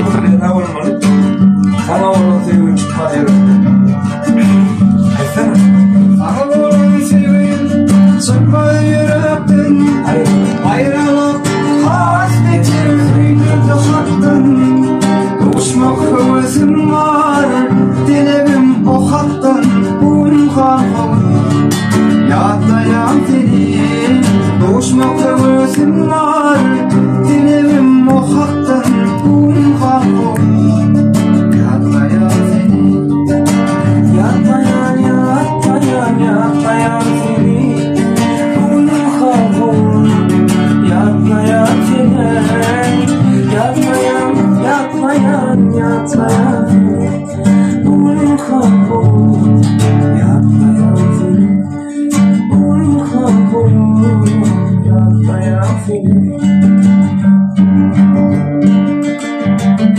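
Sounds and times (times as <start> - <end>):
person singing: 0.0 - 59.8
classical guitar duet: 0.0 - 59.9.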